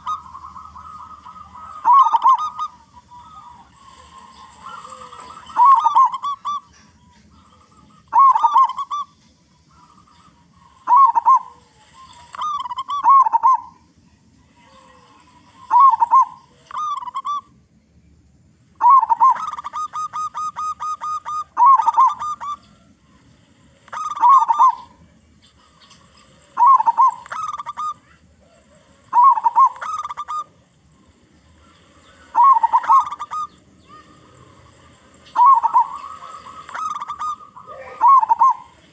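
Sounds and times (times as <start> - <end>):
dove cooing: 0.0 - 17.6, 18.8 - 38.9.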